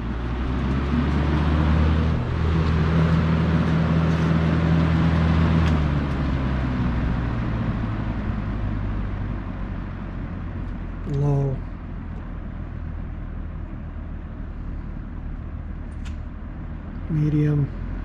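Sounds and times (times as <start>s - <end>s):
box fan motor hum and air rush: 0.0s - 18.0s.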